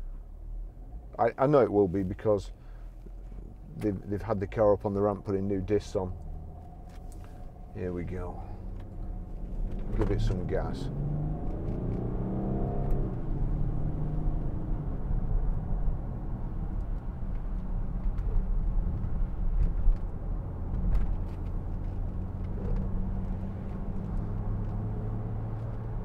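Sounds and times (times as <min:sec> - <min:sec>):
diesel car engine accelerating: 0:00.0 - 0:26.0
road noise: 0:00.0 - 0:26.0.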